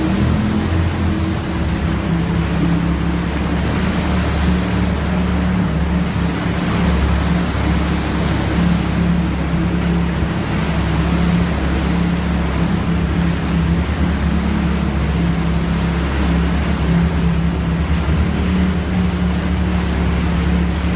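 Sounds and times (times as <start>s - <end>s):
engine droning: 0.0s - 20.9s.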